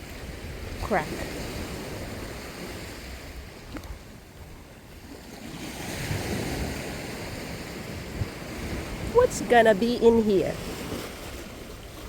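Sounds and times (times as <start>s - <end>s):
ocean surf washing: 0.0s - 12.0s
wind rumbling on microphone: 0.0s - 12.0s.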